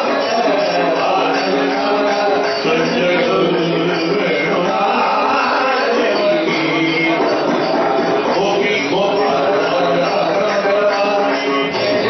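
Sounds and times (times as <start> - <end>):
men singing devotional chant: 0.0 - 12.0.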